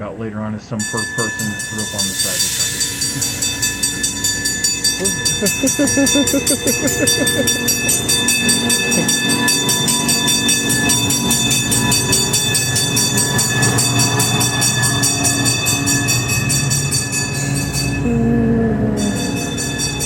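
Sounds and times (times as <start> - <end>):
cog railway train running: 0.0 - 20.0.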